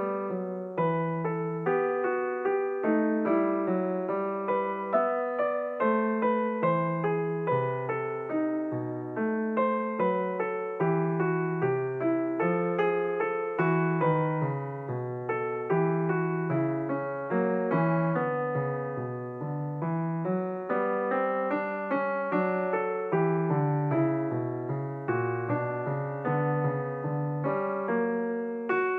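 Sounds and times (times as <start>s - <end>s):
gentle piano melody: 0.0s - 28.9s.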